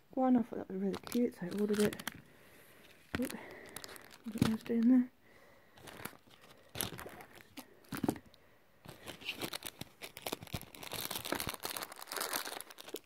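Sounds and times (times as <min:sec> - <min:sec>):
plastic packaging crinkling: 0:00.8 - 0:05.1, 0:05.7 - 0:13.0.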